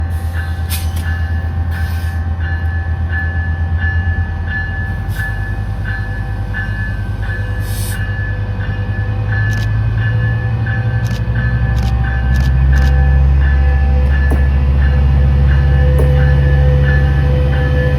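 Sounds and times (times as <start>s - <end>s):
diesel locomotive rumble: 0.0s - 17.9s
bell ringing: 2.4s - 17.9s.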